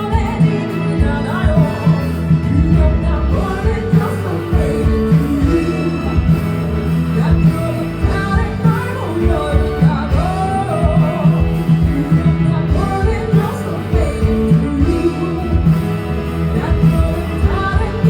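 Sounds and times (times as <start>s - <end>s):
electric guitar: 0.0s - 18.0s
person singing: 0.0s - 18.0s
steady drum beat: 0.0s - 18.0s.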